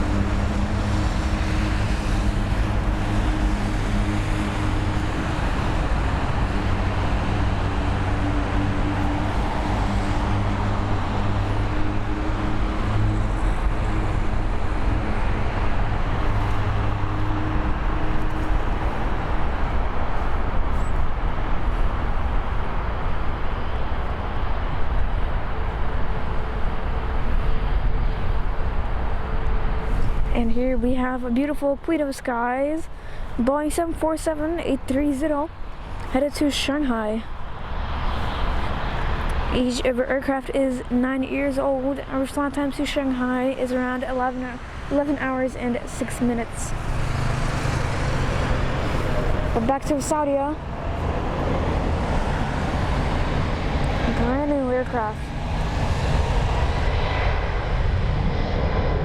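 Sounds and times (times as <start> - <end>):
jet engines roaring: 0.0 - 59.0
low hum: 0.0 - 59.0.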